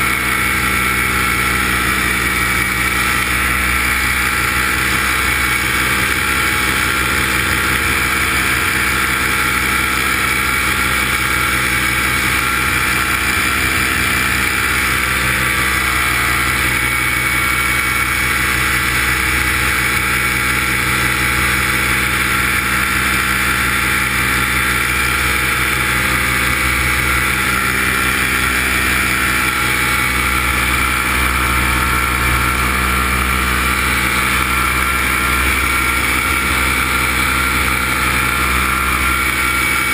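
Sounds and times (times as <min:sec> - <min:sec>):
drone propellers droning: 0:00.0 - 0:39.9.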